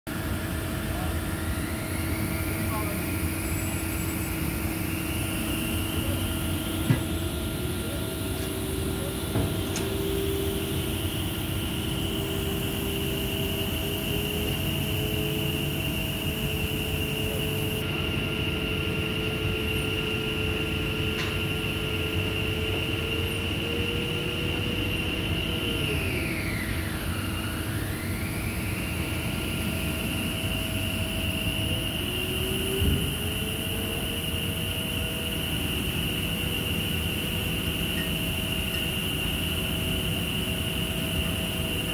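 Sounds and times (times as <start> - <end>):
drilling rig whine: 0.1 - 41.9
machinery low rumble: 0.1 - 41.9.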